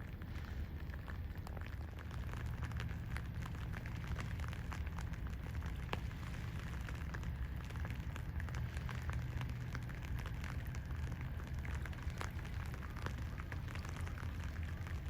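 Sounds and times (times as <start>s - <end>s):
sharp crackles and clicks: 0.0s - 15.0s
steady low rumble: 0.0s - 15.0s.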